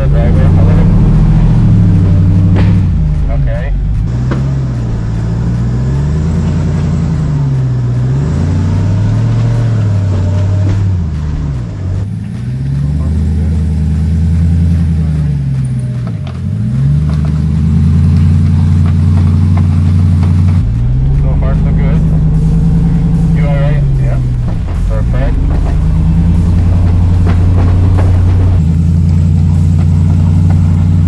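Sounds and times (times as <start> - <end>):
truck engine under load: 0.0 - 31.0.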